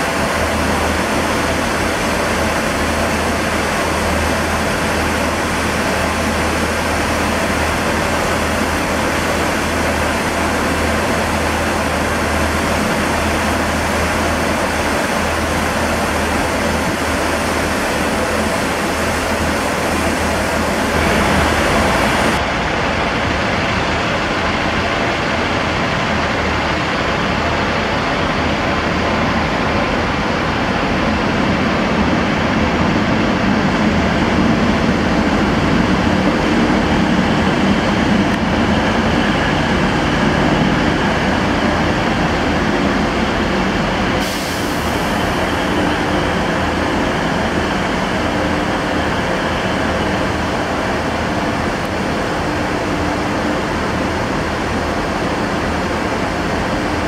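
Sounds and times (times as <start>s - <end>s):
diesel train engines rumbling: 0.0s - 57.0s.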